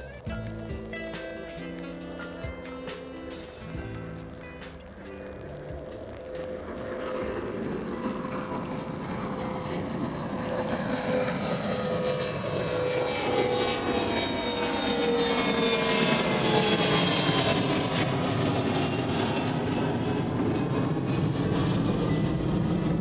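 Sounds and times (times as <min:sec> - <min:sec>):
airliner engines passing: 0:00.0 - 0:23.0.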